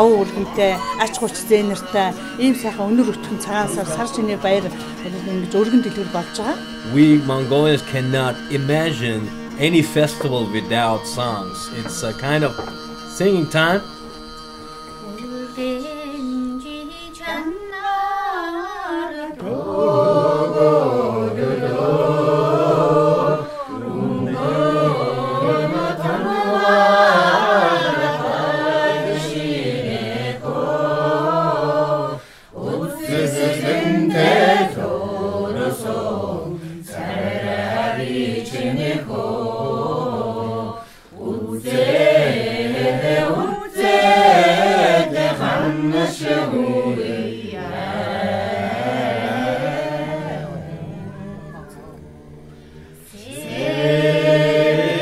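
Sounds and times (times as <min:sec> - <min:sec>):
group singing unaccompanied: 0:00.0 - 0:55.0.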